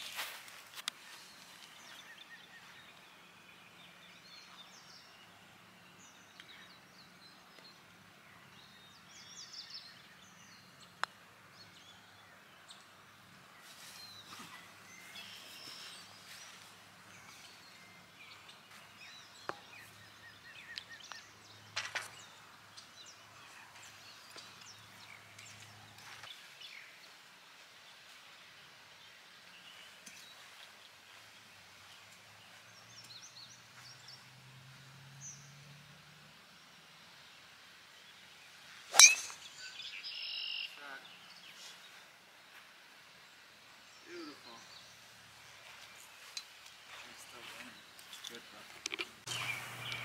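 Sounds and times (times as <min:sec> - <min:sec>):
birds chirping: 0:00.0 - 0:27.2, 0:36.6 - 0:50.0.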